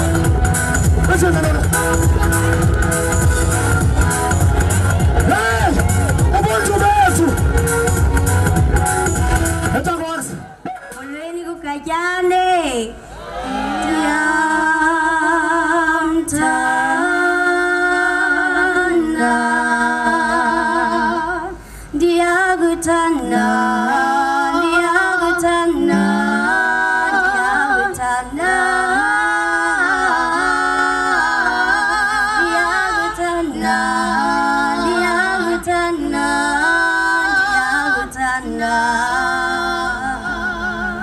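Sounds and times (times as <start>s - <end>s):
voices singing in harmony: 0.0s - 9.7s, 13.2s - 41.0s.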